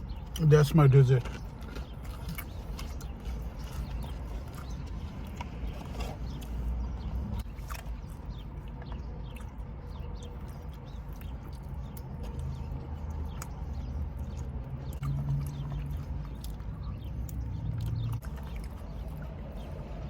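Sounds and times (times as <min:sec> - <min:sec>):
person chewing: 0:00.0 - 0:19.9.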